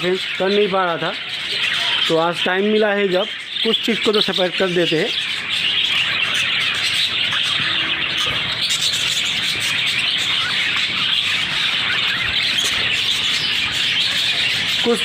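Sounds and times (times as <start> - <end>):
budgerigars chattering and chirping: 0.0 - 15.0.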